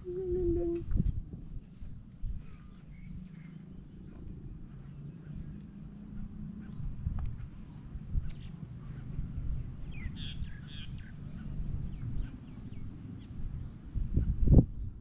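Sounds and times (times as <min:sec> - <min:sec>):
wind rumble on microphone: 0:00.0 - 0:15.0
birds chirping: 0:01.8 - 0:14.9.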